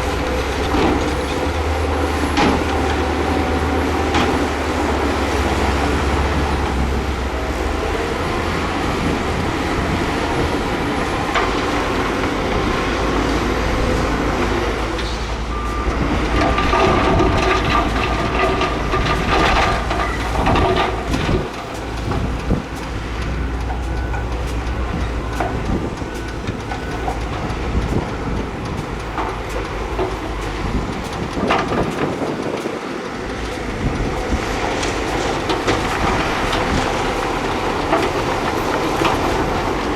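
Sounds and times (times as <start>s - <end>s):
low diesel engine drone: 0.0s - 39.9s.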